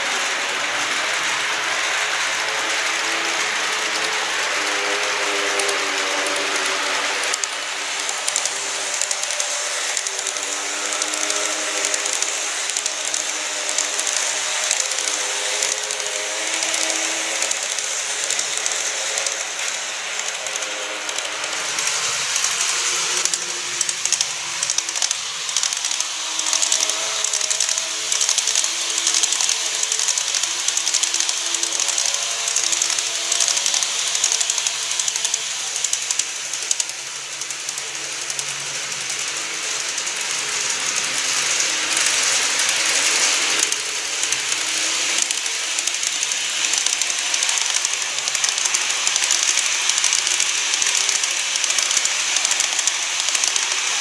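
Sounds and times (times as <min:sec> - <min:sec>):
model train wheels clicking on track: 0:00.0 - 0:54.0.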